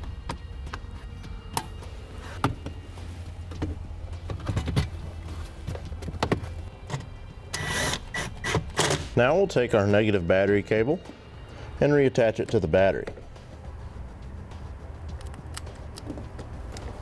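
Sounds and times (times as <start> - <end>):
steady low hum: 0.0 - 9.7, 13.0 - 17.0.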